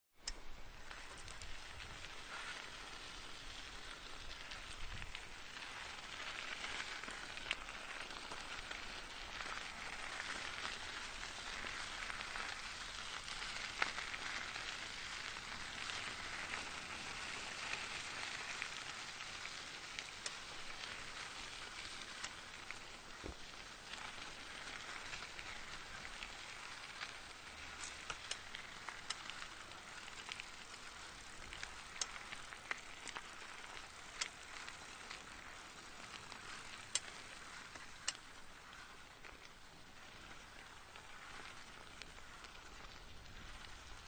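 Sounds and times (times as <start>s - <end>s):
bicycle tyres crunching on gravel: 0.3s - 44.0s.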